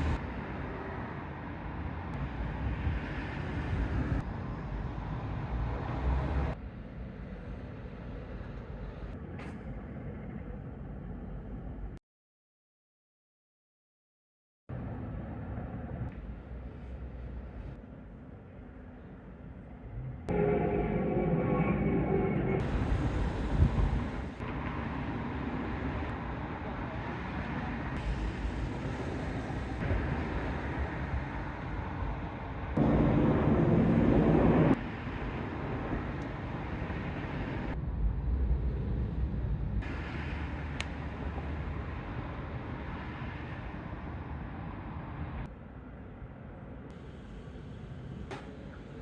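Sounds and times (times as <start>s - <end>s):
low rumble of road traffic: 0.0s - 12.0s, 14.7s - 49.0s.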